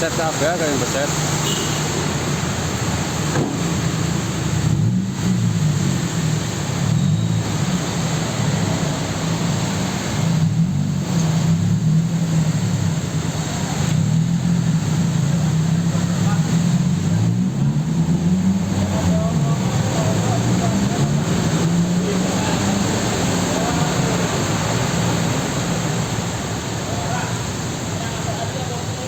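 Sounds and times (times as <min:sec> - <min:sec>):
heavy rain: 0:00.0 - 0:29.0
vehicle engine and road rumble: 0:00.0 - 0:29.0.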